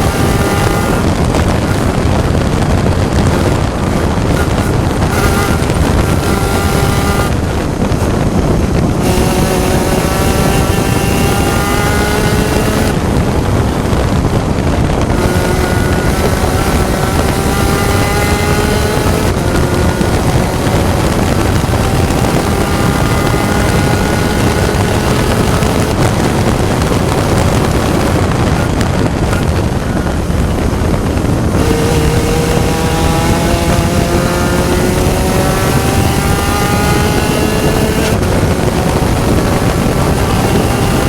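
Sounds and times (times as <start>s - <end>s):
race car engine revving: 0.0s - 41.0s
wind noise on microphone: 0.0s - 41.0s.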